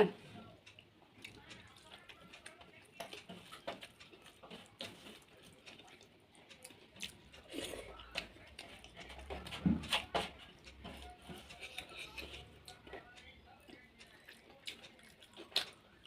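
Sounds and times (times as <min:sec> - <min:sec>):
soft chewing: 0:00.0 - 0:16.0.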